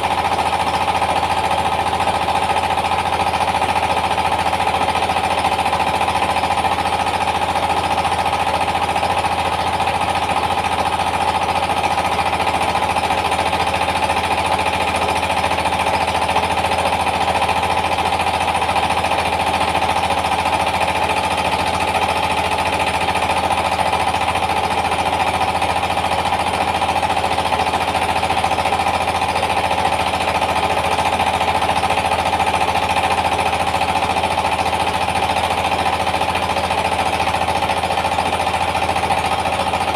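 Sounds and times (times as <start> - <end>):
diesel engine knocking: 0.0 - 39.9
rice mill hum: 0.0 - 39.9.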